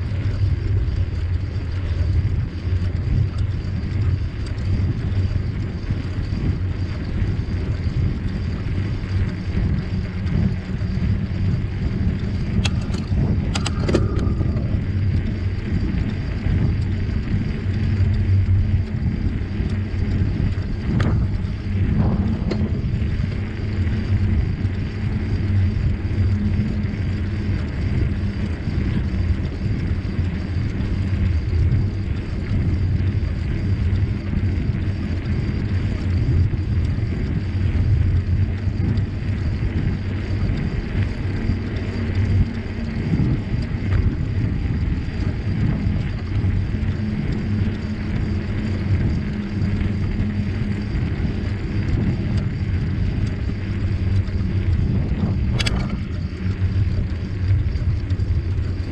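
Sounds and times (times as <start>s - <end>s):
bicycle rolling on trail: 0.0s - 58.9s
wind buffeting microphone: 0.0s - 58.9s.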